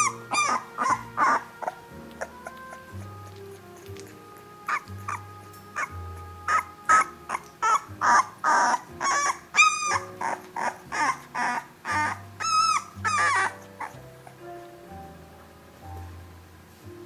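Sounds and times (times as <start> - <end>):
puppies whining and yelping: 0.0 - 14.5.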